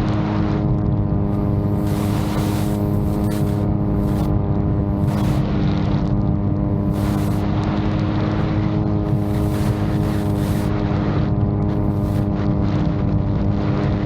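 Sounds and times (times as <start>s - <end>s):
drone propellers droning: 0.3s - 12.8s.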